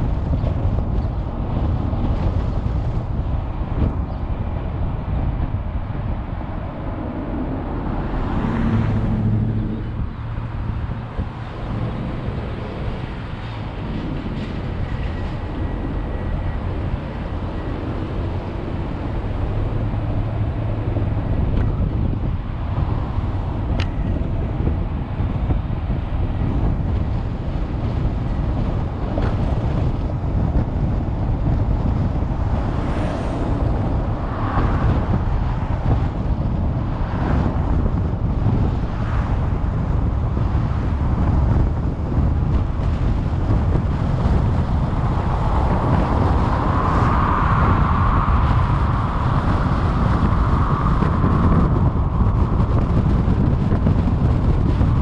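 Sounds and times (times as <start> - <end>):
car road and wind noise: 0.0 - 55.0
passing vehicle whooshes: 0.0 - 55.0.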